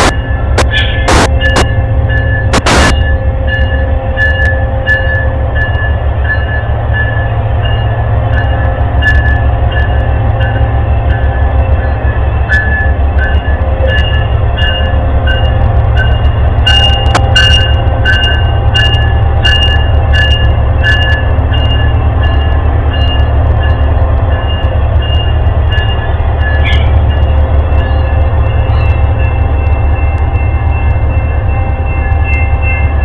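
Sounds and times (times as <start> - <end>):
railroad crossing bell ringing: 0.0 - 33.0
train rumbling past: 0.0 - 33.0.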